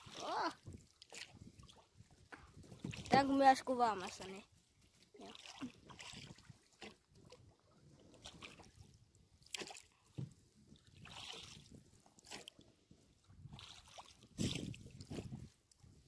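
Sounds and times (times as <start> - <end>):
water lapping against boat: 0.0 - 16.0.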